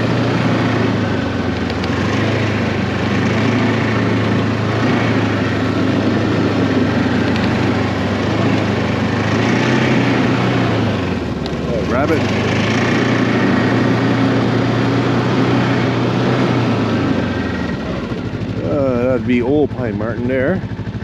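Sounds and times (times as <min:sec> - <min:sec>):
snowmobile engine running: 0:00.0 - 0:21.0.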